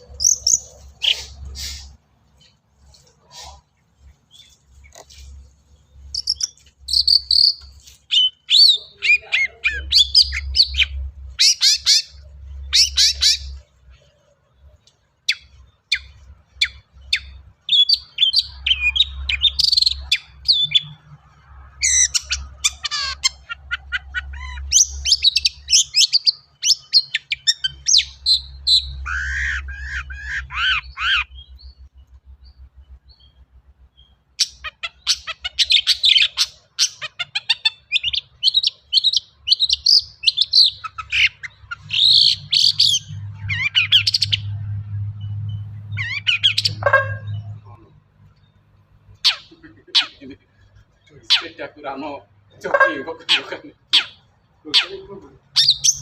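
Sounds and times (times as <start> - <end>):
bird singing chattering song: 0.0 - 56.0.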